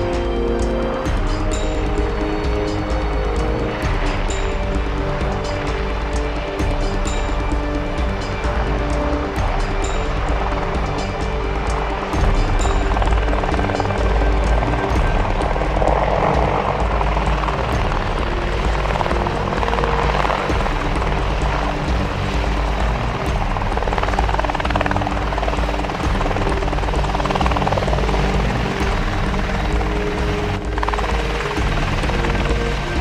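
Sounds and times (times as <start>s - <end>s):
helicopter flying past: 0.0s - 33.0s
music of sustained tones: 0.0s - 33.0s.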